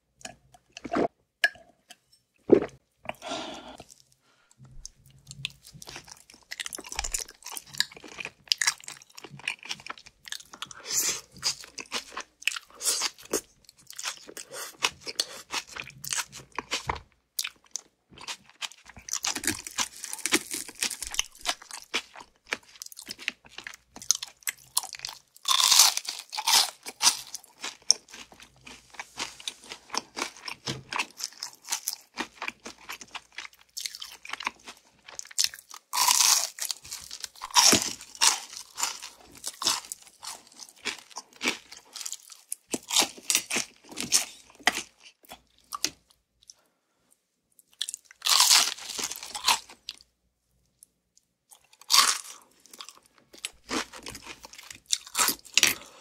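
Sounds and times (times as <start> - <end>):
fried chicken crunching: 5.3 - 45.0, 47.8 - 50.0, 51.6 - 56.0.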